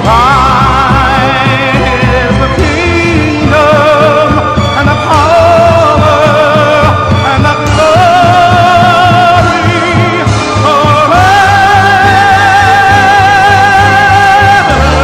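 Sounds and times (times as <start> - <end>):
high voice singing with vibrato: 0.0 - 15.0
steady bass beat: 0.0 - 15.0.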